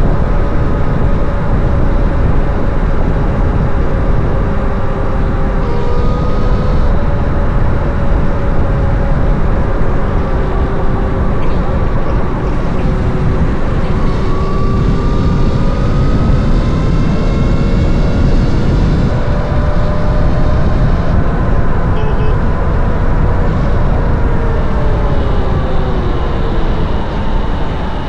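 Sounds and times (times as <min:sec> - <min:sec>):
electric motorcycle whine: 0:00.0 - 0:28.0
wind rushing over microphone: 0:00.0 - 0:28.0.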